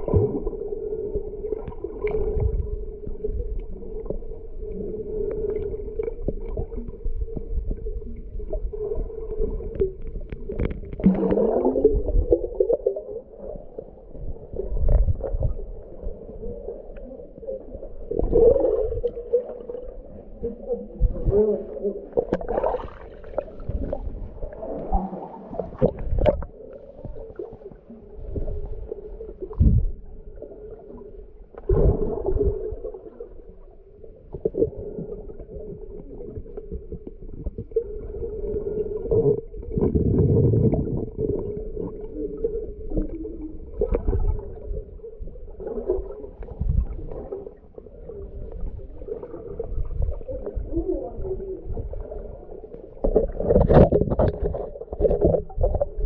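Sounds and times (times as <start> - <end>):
water swirling and gurgling underwater: 0.0 - 56.0.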